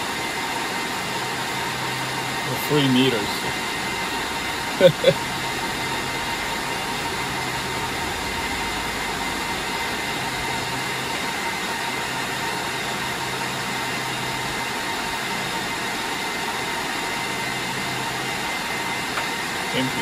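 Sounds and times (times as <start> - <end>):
server cooling fans whirring: 0.0 - 20.0.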